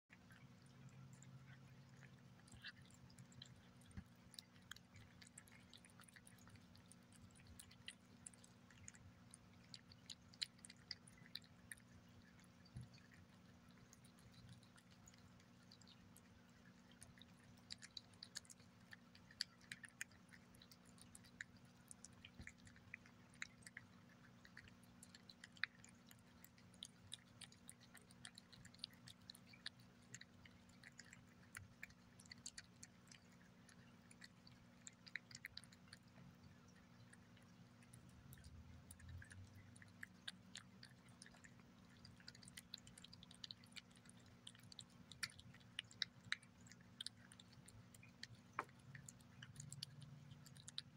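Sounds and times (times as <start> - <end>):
cat chewing wet food: 0.1 - 50.9
faint steady hum: 0.1 - 50.9.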